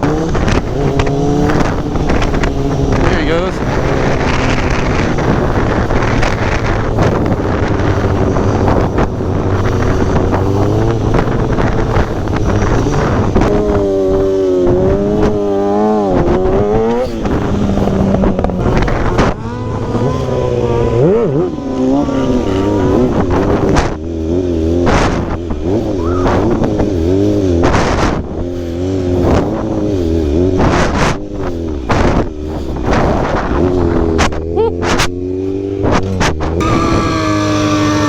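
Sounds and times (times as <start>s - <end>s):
motorcycle engine revving: 0.0s - 38.0s
wind buffeting microphone: 0.0s - 38.0s.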